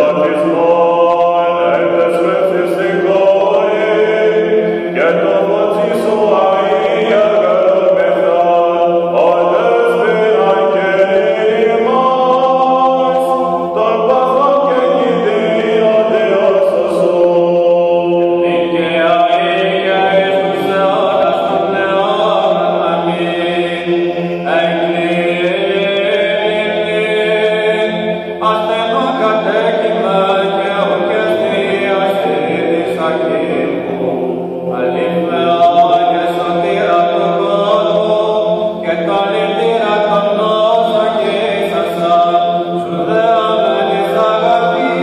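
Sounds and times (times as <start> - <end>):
held drone note: 0.0 - 45.0
men singing ornamented chant: 0.0 - 45.0.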